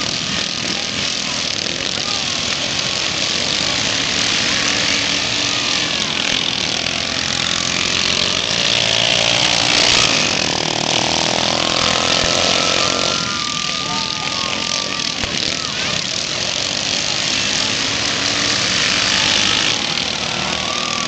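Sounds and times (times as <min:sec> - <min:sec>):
racing lawn mower engines: 0:00.0 - 0:21.0.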